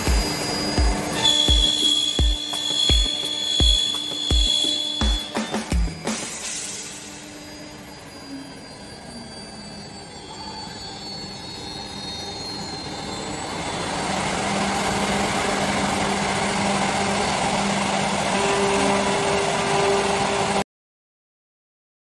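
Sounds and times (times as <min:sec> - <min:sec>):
wood milling machine whine: 0:00.0 - 0:20.6.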